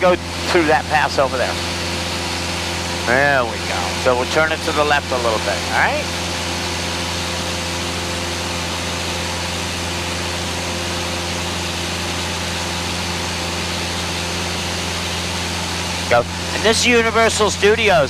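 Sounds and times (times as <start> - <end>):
propeller aircraft cabin drone: 0.0 - 18.0.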